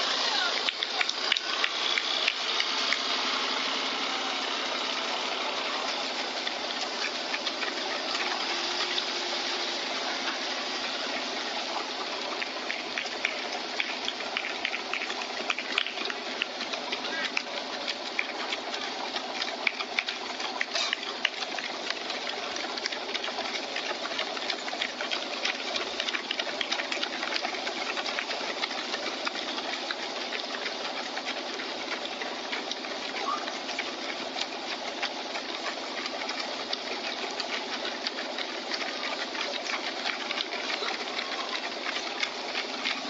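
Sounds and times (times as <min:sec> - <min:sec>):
runners' footsteps on asphalt: 0:00.0 - 0:43.0.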